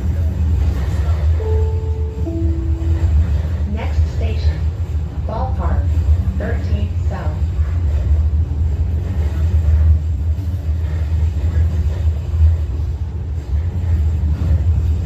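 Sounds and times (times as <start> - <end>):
light-rail train rumbling: 0.0 - 15.0.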